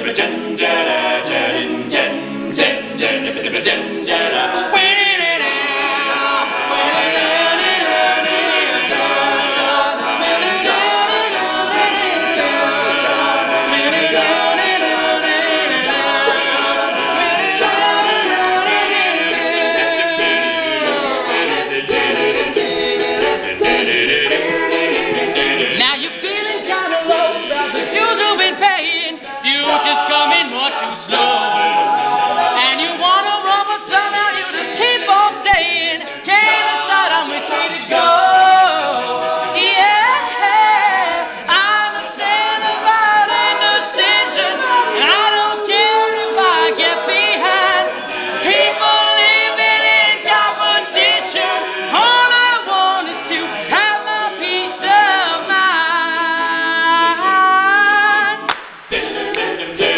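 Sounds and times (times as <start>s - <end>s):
male a cappella group singing: 0.0s - 59.9s.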